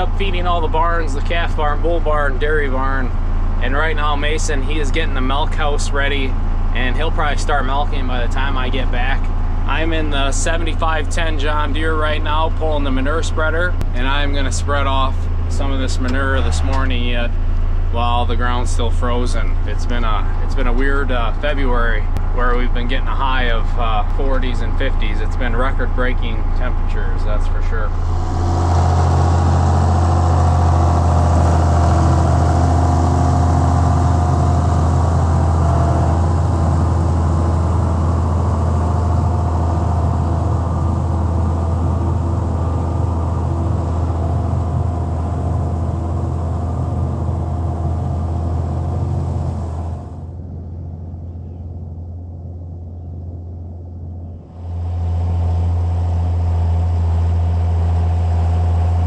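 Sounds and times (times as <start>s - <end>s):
tractor diesel engine droning: 0.0s - 59.0s.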